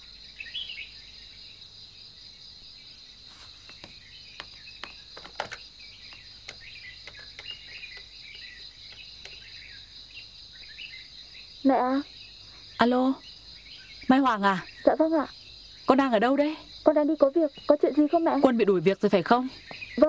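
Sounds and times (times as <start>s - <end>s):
bird chirps: 0.0s - 1.4s, 3.4s - 20.0s
insect drone: 0.0s - 20.0s.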